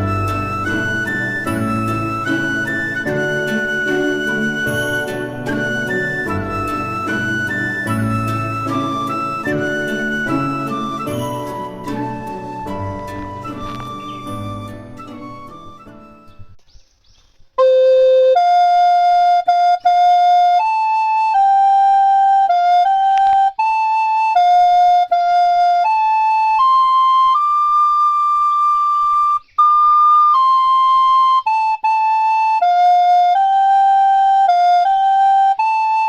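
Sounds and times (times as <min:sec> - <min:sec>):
flute-like solo melody: 0:00.0 - 0:16.6, 0:17.6 - 0:36.0.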